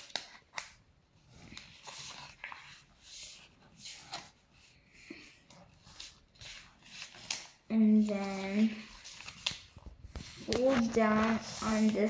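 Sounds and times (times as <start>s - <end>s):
paper being folded: 0.0s - 12.0s.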